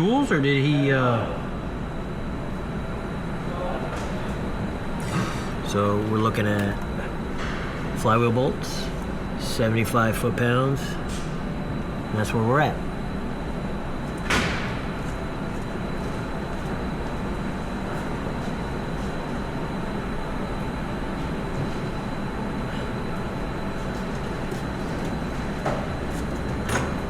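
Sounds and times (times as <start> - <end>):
low rumbling background noise: 0.0 - 27.0.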